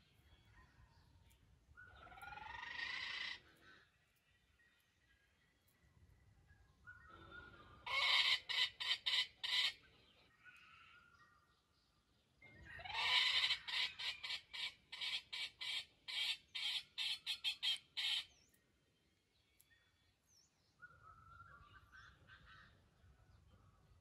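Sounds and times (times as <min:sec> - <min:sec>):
faint bird-like calls: 0:00.0 - 0:05.7, 0:06.5 - 0:11.6, 0:12.5 - 0:18.6, 0:20.8 - 0:24.0.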